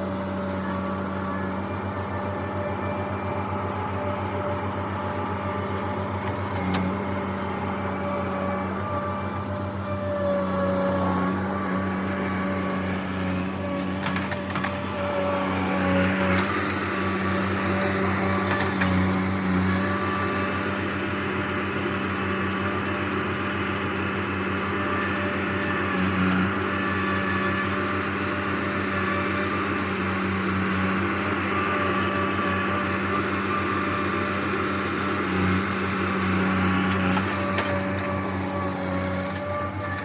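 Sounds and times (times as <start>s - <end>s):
vehicle engine droning: 0.0s - 40.0s.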